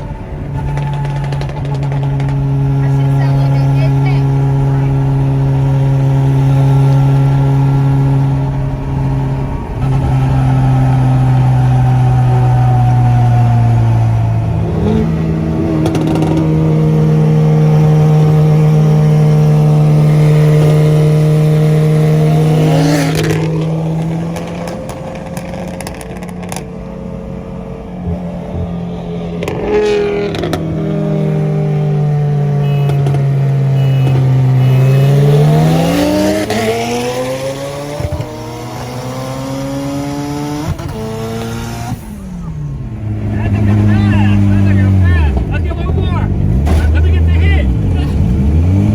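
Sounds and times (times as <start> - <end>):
car engine droning: 0.0 - 48.9.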